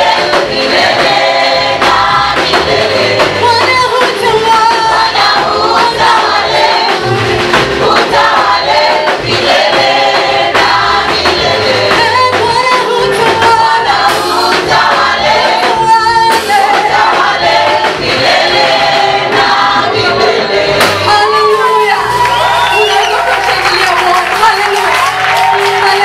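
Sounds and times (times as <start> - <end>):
band accompaniment: 0.0 - 26.0
choir singing gospel song: 0.0 - 26.0.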